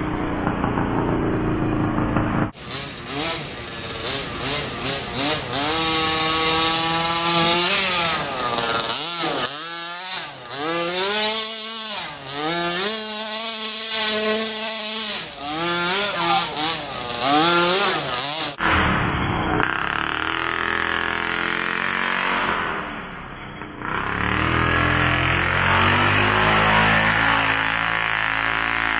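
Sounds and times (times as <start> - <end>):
rc truck engine revving: 0.0 - 28.9.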